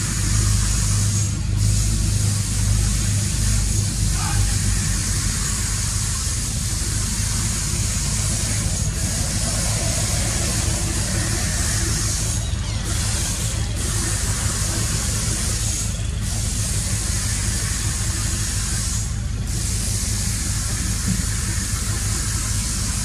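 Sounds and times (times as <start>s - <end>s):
high hiss: 0.0s - 23.0s.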